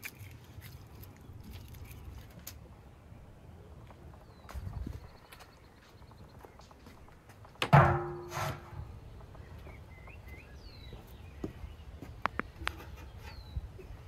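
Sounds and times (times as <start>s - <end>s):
birds chirping: 0.6s - 14.0s.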